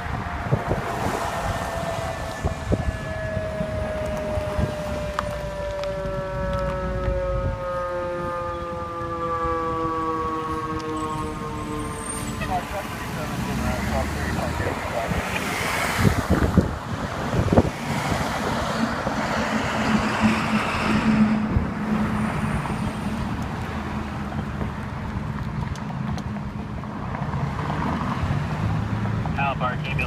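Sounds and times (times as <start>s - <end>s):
wind buffeting microphone: 0.0s - 29.3s
fire truck driving by: 0.0s - 30.0s.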